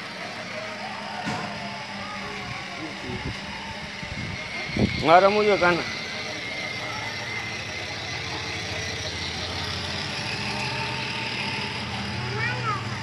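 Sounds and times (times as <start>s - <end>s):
small electric motor running: 0.0s - 13.0s.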